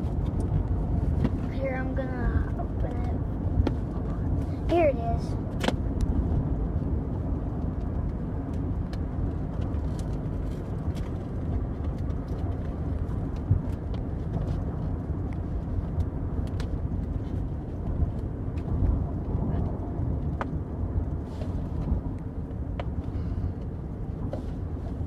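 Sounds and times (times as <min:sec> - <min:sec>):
car road noise rumble: 0:00.0 - 0:25.0.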